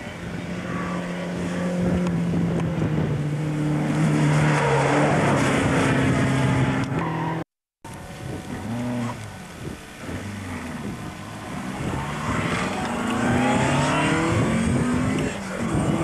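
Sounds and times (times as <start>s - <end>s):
distant rally car engine revving: 0.0s - 16.0s
rally car engine passing at high revs: 0.1s - 7.4s, 8.4s - 16.0s.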